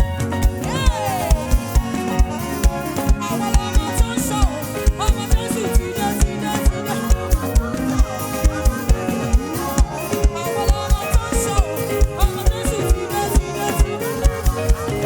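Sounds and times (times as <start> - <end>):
gospel band playing upbeat groove: 0.0 - 15.0.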